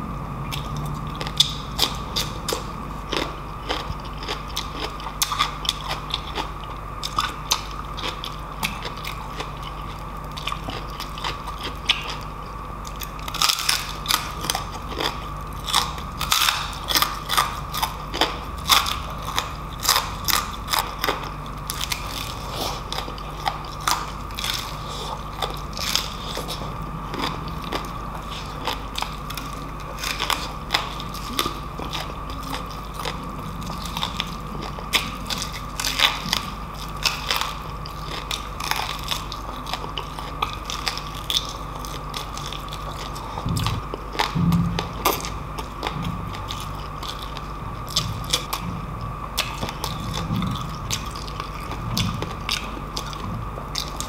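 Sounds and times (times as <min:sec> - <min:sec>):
crunchy chewing: 0:00.0 - 0:54.0
steady background hum: 0:00.0 - 0:54.0.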